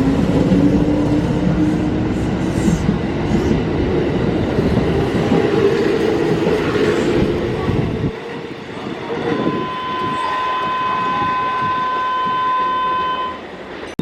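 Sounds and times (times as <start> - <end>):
train motors humming: 0.0 - 12.4
train wheels rumbling on rails: 0.0 - 14.0.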